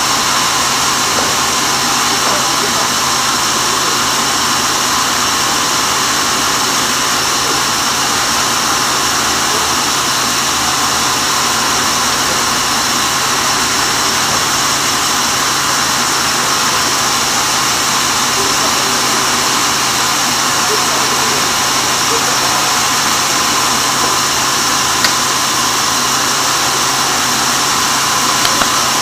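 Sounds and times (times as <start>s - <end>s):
band saw running: 0.0s - 29.0s.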